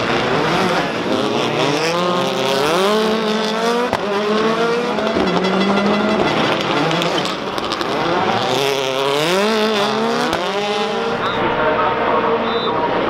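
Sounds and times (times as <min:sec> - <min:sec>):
rally car engine pulling hard: 0:00.0 - 0:13.0.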